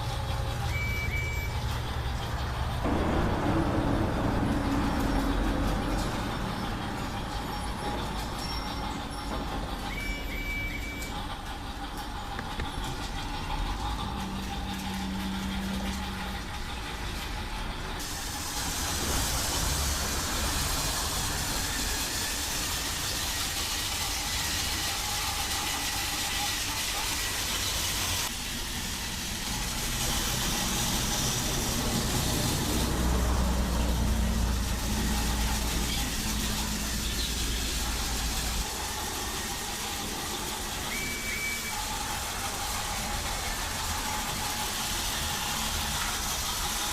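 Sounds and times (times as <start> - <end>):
toy train motor and wheels: 4.9 - 46.9.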